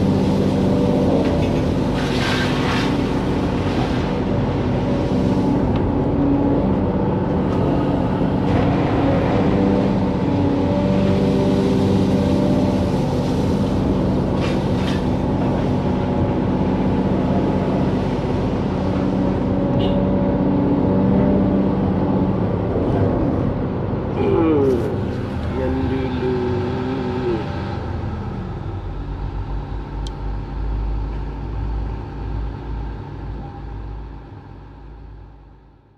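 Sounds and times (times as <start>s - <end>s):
excavator diesel engine: 0.0s - 35.9s.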